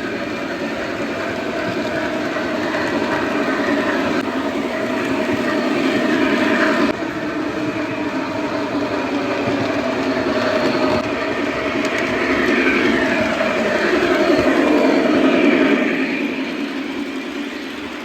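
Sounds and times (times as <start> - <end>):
model train rolling rumble: 0.0 - 18.0.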